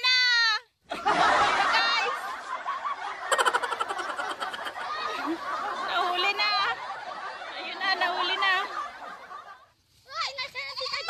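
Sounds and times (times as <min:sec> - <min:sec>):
people chattering and laughing: 0:00.9 - 0:10.1.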